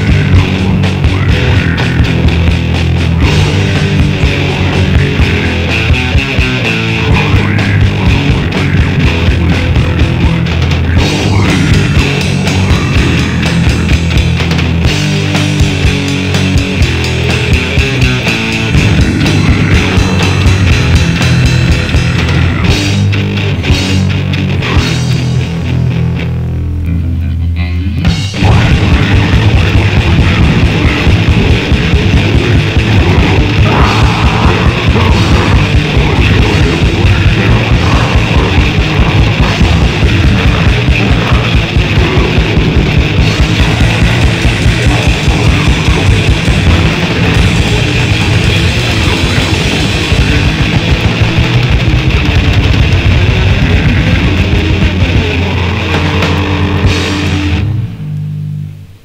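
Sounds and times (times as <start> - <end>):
very fast drumming: 0.0 - 25.8, 28.1 - 57.7
heavily distorted guitars: 0.0 - 59.0.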